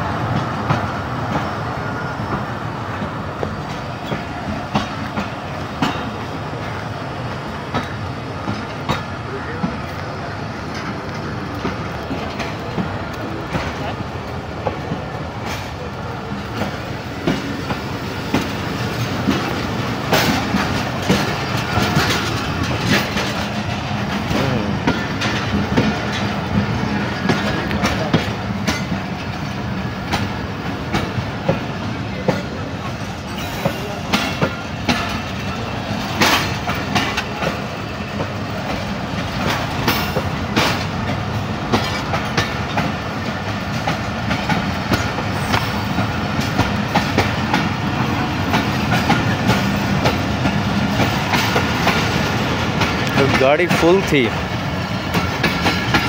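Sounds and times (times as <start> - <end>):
train coaches rumbling: 0.0 - 56.0
wheels clacking over rail joints: 0.1 - 56.0.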